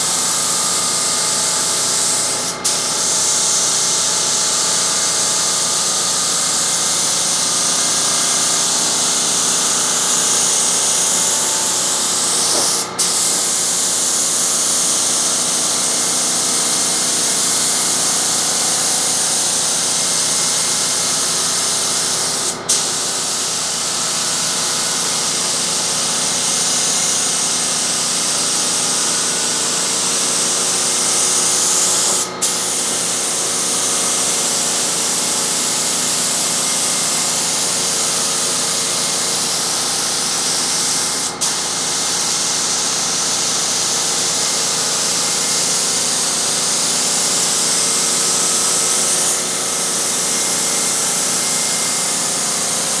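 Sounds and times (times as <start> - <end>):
spray gun hissing: 0.0 - 53.0.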